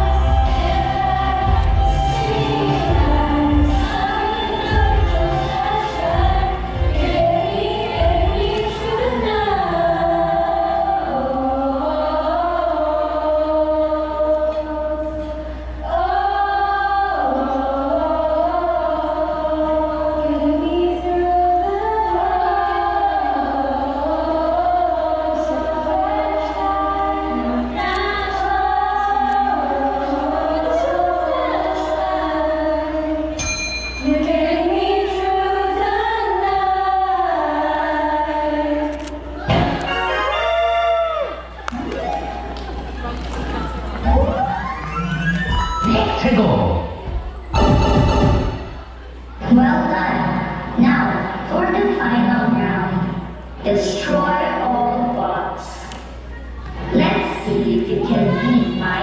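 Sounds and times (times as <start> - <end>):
choir singing in harmony: 0.0 - 51.5
steady low hum: 0.0 - 59.0.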